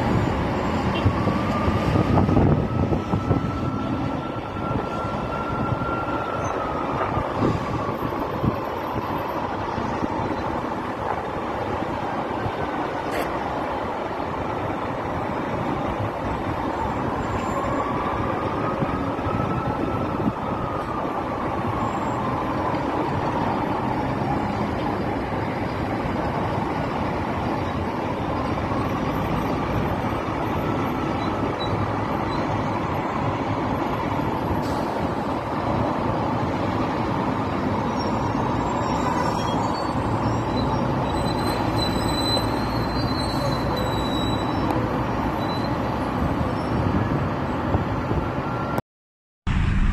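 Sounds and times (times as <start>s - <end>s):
highway traffic noise: 0.0s - 48.8s, 49.5s - 49.9s.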